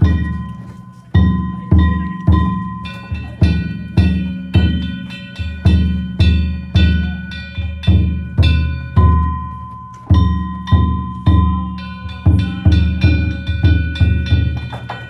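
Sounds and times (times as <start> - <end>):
festival drum and gongs beating: 0.0 - 15.0.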